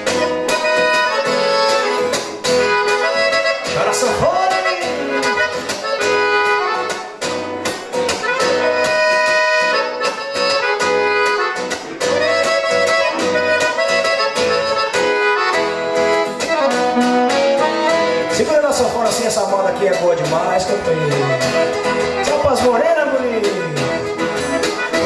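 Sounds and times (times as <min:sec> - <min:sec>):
accordion solo: 0:00.0 - 0:25.0
rhythmic backing music: 0:00.0 - 0:25.0.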